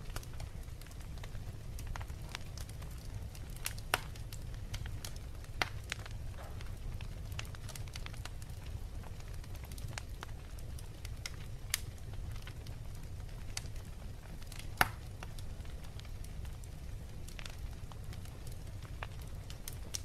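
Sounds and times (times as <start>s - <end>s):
low rumble of flames: 0.0s - 20.0s
sharp pops of fire: 0.0s - 20.0s
wood fire crackling: 0.0s - 20.0s.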